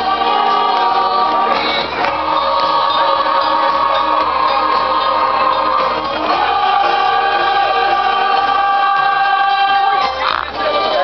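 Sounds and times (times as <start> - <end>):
steady music backing: 0.0 - 11.0.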